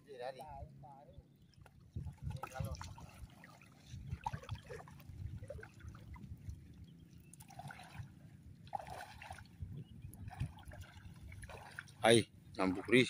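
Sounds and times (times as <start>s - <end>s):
seawater splashing and trickling: 1.3s - 13.0s.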